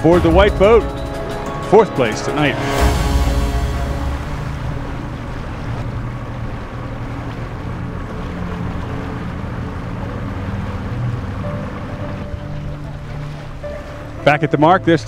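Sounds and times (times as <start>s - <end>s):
steady low drone: 0.0s - 14.3s
moving water: 0.0s - 15.0s.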